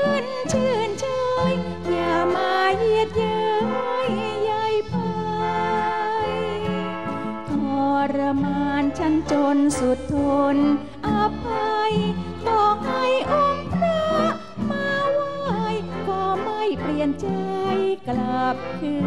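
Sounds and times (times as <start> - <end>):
live band with saxophones: 0.0 - 19.0
woman singing into microphone: 0.0 - 19.0.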